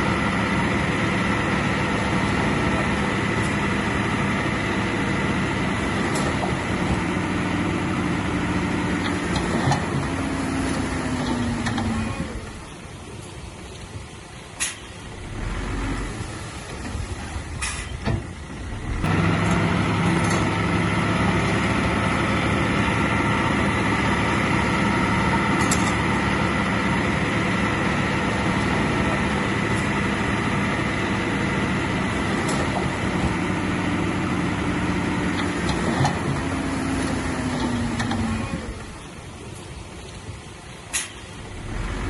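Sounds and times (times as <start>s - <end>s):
heavy diesel engine running: 0.0s - 12.8s, 15.1s - 39.5s, 41.3s - 42.0s.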